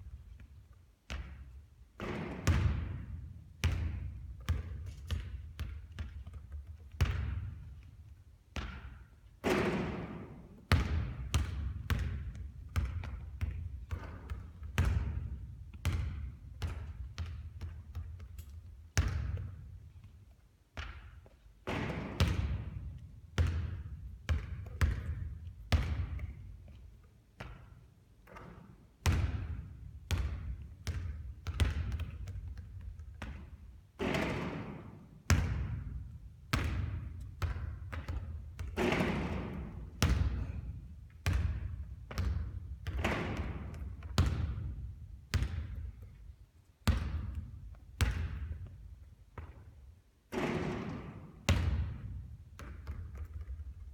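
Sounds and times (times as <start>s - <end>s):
basketball bouncing on court: 0.0s - 53.9s.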